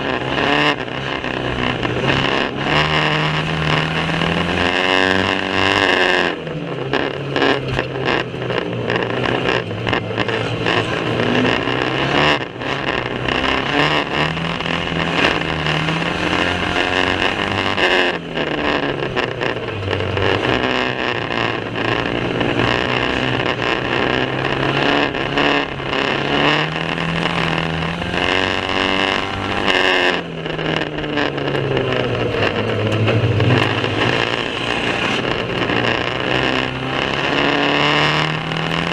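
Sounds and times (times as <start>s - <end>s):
racing car engines at full throttle: 0.0s - 38.9s.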